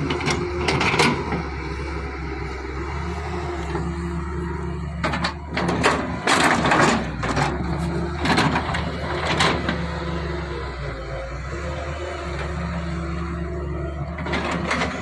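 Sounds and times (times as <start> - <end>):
diesel digger engine running: 0.0 - 15.0.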